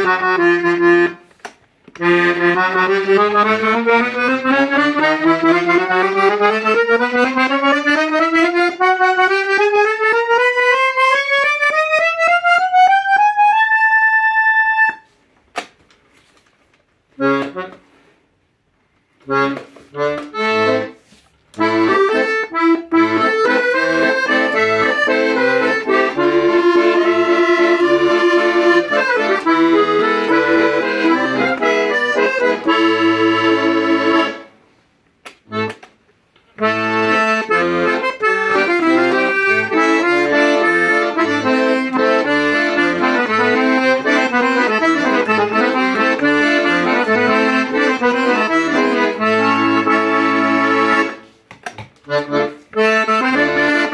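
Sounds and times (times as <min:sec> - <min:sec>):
accordion melody with bass chords: 0:00.0 - 0:15.4, 0:16.9 - 0:53.9.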